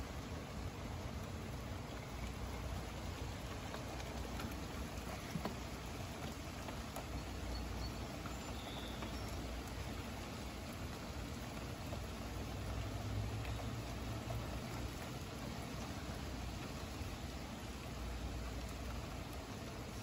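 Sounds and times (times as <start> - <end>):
rain falling steadily: 0.0 - 20.0
sharp drips: 0.0 - 20.0.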